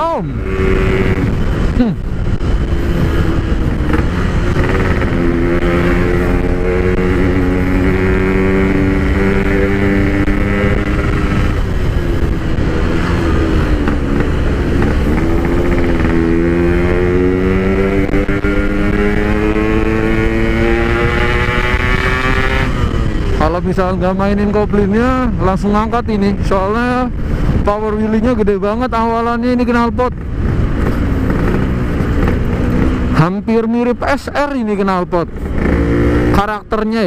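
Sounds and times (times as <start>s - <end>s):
two-stroke motorcycle exhaust: 0.0s - 37.0s.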